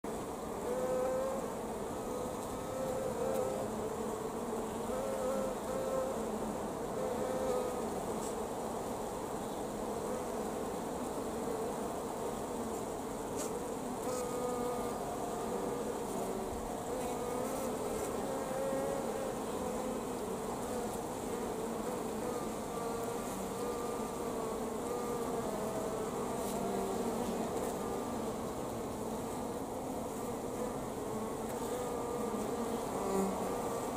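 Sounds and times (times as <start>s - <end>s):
honeybees buzzing: 0.1s - 33.9s.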